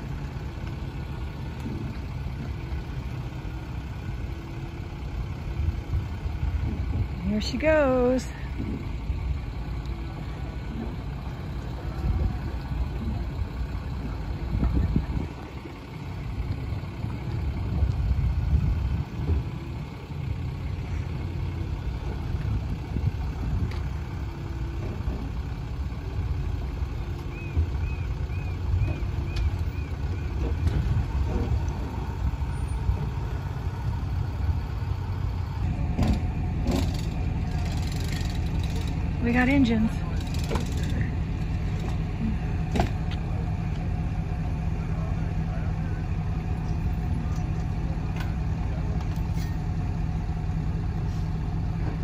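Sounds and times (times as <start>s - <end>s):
diesel pickup engine rumbling: 0.0s - 52.0s.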